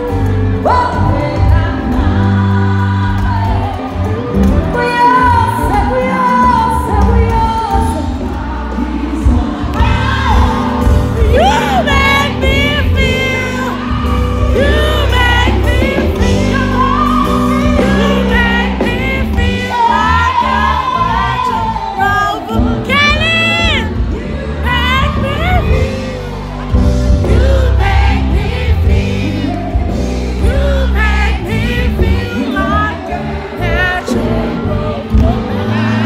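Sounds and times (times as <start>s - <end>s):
crowd singing: 0.0s - 36.0s
live concert music over loudspeakers: 0.0s - 36.0s
women singing along: 0.0s - 36.0s.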